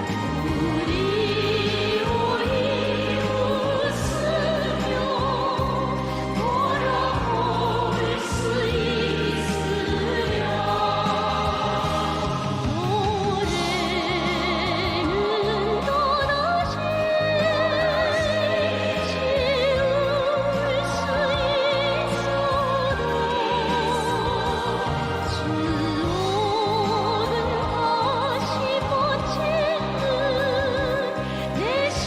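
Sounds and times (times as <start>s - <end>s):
orchestral backing: 0.0s - 32.0s
pop song with vibrato vocals: 0.0s - 32.0s
steady bass line: 0.0s - 32.0s.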